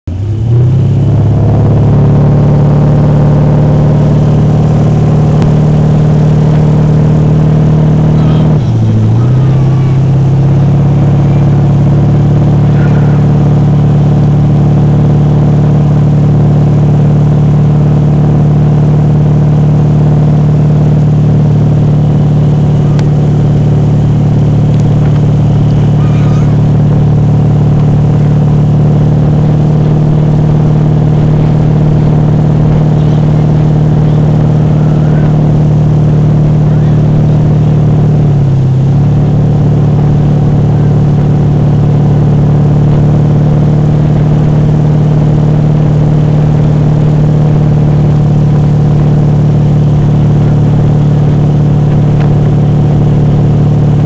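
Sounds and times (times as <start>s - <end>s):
motorboat engine: 0.0s - 54.0s.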